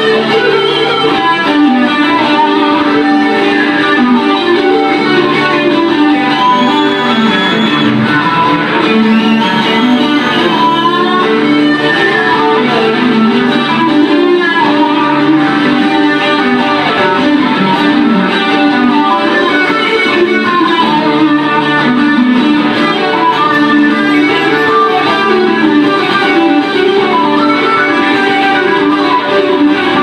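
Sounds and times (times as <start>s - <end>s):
acoustic guitars playing: 0.0s - 30.0s.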